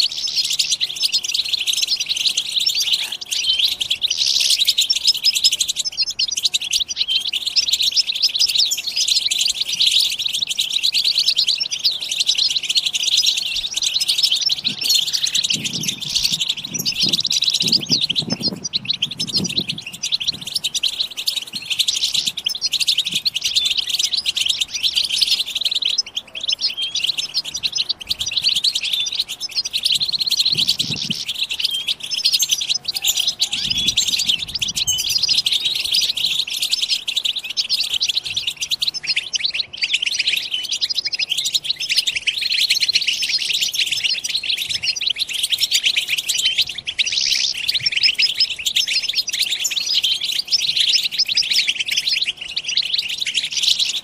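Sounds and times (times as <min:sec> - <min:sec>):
goldfinches twittering: 0:00.0 - 0:54.0.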